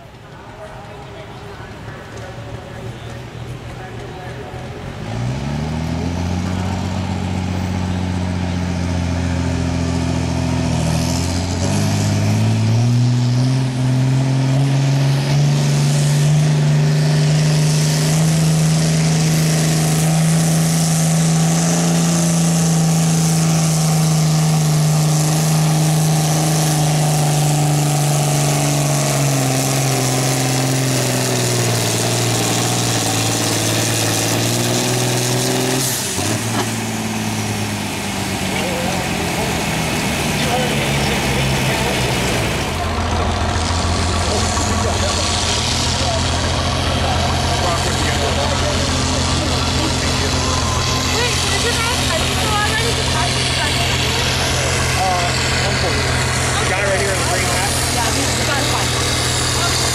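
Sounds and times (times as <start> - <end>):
tractor engine at full throttle: 0.0 - 59.9.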